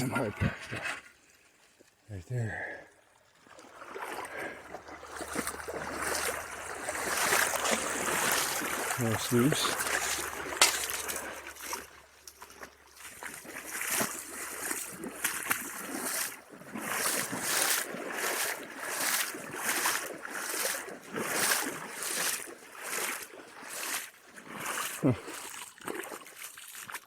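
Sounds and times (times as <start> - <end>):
waders sloshing through water: 0.0 - 27.0.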